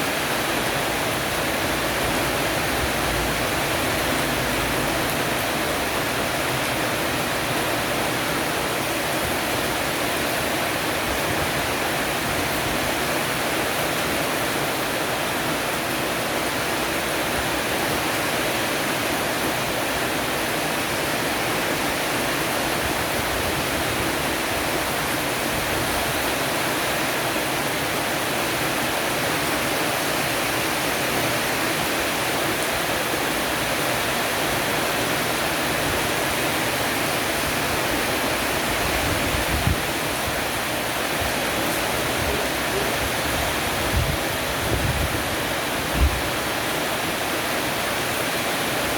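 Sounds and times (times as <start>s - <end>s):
heavy rain on roof eaves: 0.0s - 48.9s.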